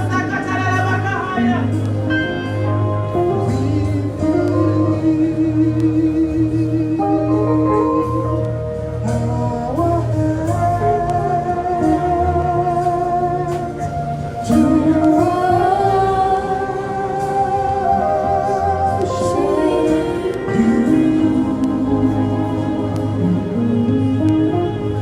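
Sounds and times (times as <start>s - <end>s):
sustained chords: 0.0s - 25.0s
person singing long held notes: 3.2s - 25.0s.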